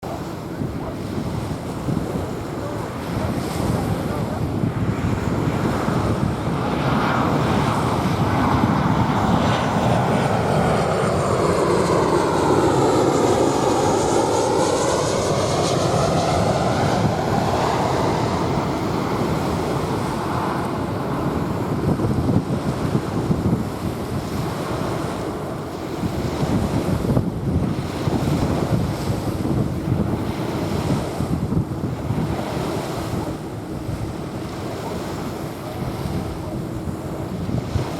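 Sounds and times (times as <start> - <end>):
jet airliner passing overhead: 0.0 - 37.9
waves washing on sand: 0.0 - 37.9
wind buffeting microphone: 0.0 - 37.9.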